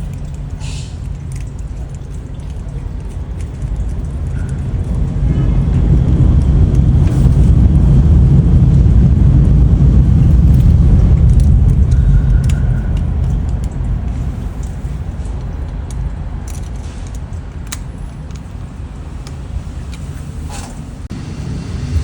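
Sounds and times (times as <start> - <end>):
deep rumble: 0.0 - 22.0.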